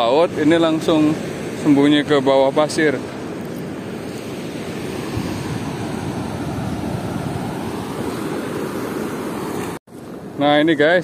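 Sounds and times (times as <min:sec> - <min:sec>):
waves washing over sand: 0:00.0 - 0:11.0.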